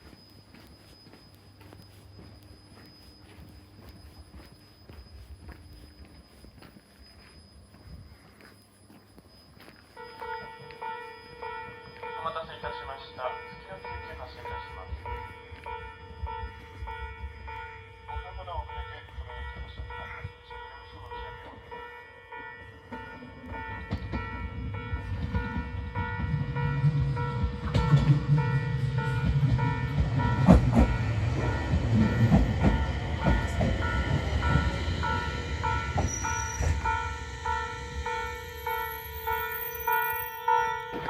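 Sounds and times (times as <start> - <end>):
electric train rumbling: 0.0 - 41.0
steady ringing tone: 0.0 - 41.0.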